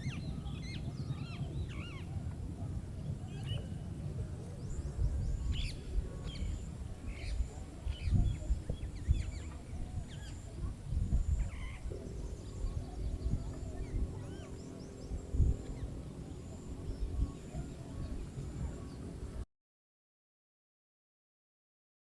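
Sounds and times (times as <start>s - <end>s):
low hum of held tones: 0.0s - 19.4s
wind on microphone: 0.0s - 19.4s.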